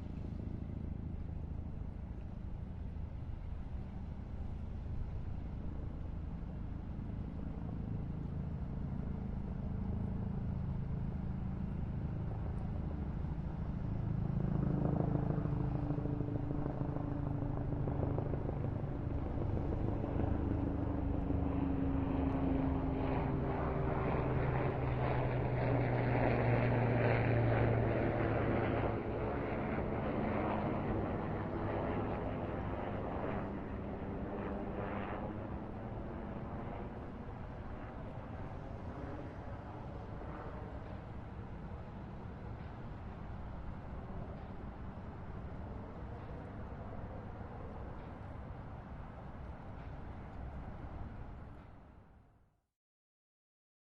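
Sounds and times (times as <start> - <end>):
propeller aircraft flying past: 0.0 - 52.2.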